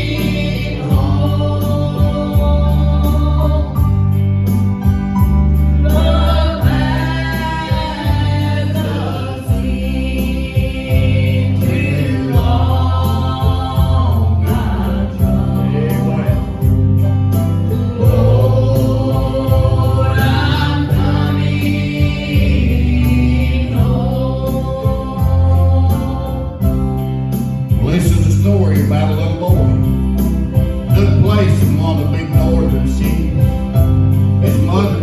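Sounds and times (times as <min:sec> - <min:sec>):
gospel singing: 0:00.0 - 0:35.0
low bass line: 0:00.0 - 0:35.0.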